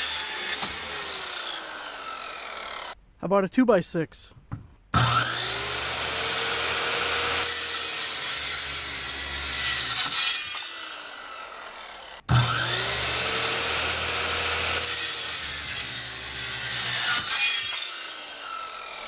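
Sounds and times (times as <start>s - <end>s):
circular saw cutting wood: 0.0s - 3.0s, 4.9s - 19.0s.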